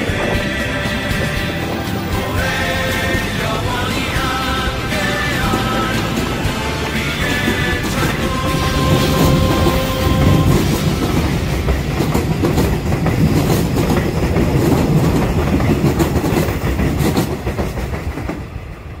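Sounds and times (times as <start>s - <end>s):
wheels clacking over rail joints: 0.0s - 18.9s
electric train passing: 0.0s - 19.0s.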